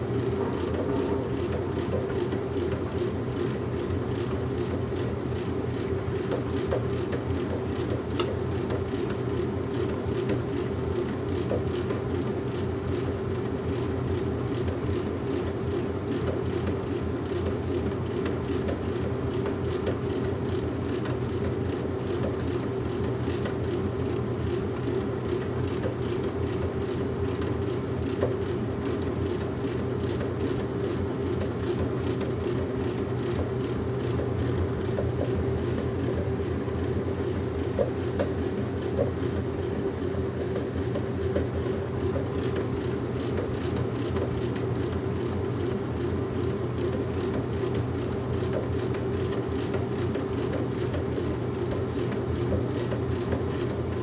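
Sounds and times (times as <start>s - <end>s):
washing machine running: 0.0s - 54.0s.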